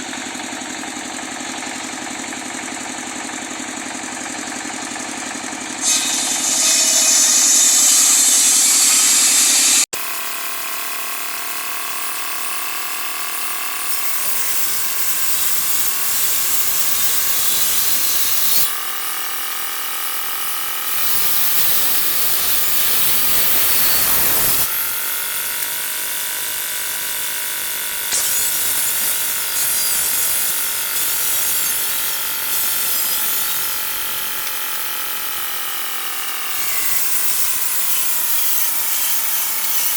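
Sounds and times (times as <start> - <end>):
power tool motor whine: 0.0 - 39.9.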